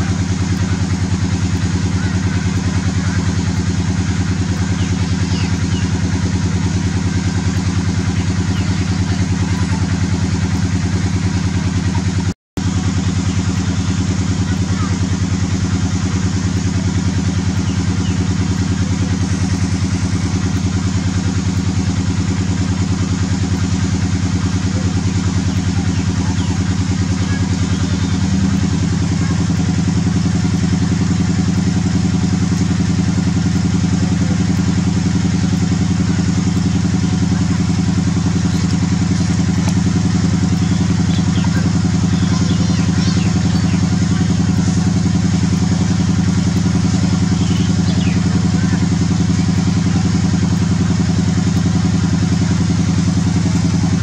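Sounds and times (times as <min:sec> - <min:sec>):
small engine idling: 0:00.0 - 0:54.0.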